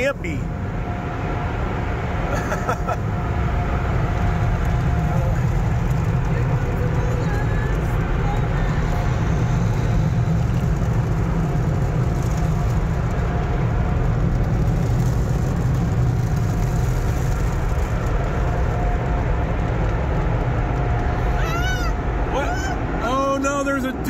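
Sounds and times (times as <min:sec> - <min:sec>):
car wash rushing noise: 0:00.0 - 0:24.0.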